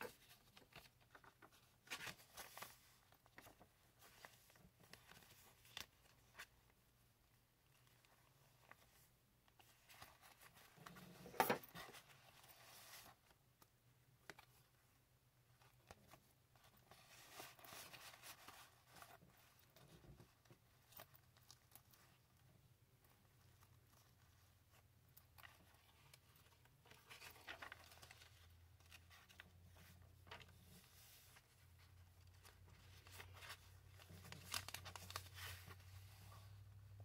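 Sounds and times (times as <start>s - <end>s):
paper pages rustling and turning: 0.0s - 6.8s, 7.6s - 14.7s, 15.5s - 22.2s, 23.0s - 36.7s.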